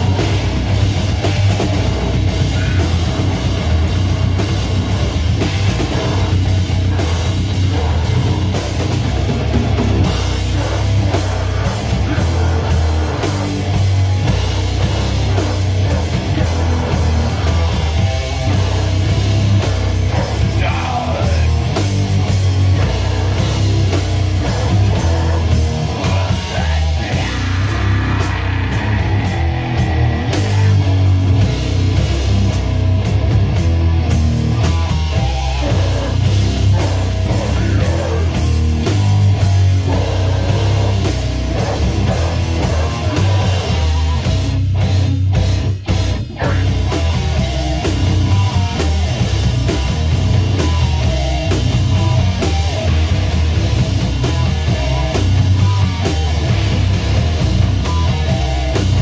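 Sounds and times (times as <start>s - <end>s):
distorted electric guitars: 0.0s - 59.0s
pounding drum kit: 0.0s - 59.0s.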